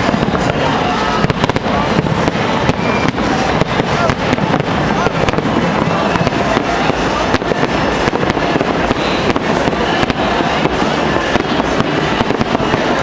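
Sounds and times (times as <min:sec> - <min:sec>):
fireworks bursts and bangs: 0:00.0 - 0:13.0.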